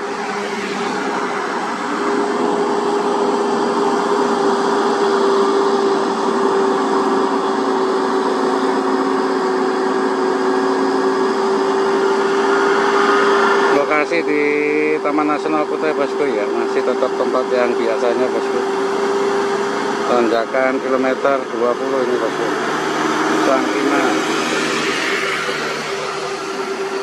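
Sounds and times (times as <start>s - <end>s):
truck diesel engine droning: 0.0s - 27.0s.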